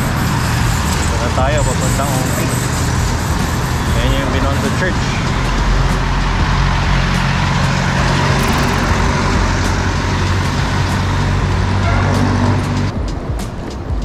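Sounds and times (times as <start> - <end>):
motor vehicle engine hum: 0.0 - 14.0
road and wind noise: 0.0 - 14.0.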